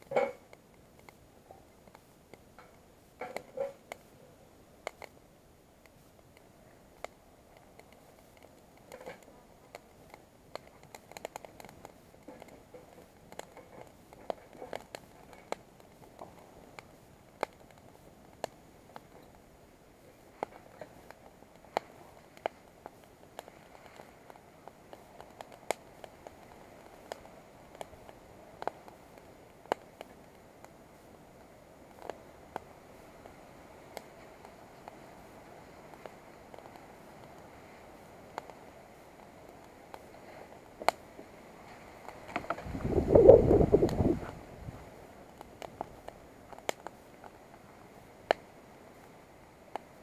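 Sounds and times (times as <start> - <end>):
faint hiss: 0.0 - 50.0
wood fire crackling: 0.0 - 50.0.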